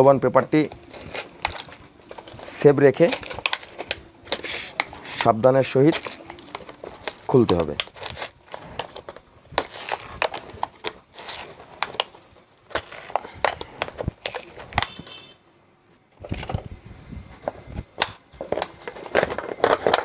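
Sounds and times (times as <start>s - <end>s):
scraping crackling and clicking: 0.6s - 15.3s, 17.3s - 20.0s.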